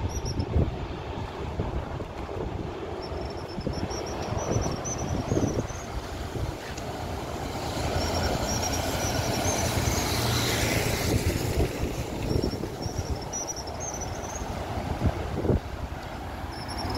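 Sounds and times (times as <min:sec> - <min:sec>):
jet engine whine: 0:00.0 - 0:16.9.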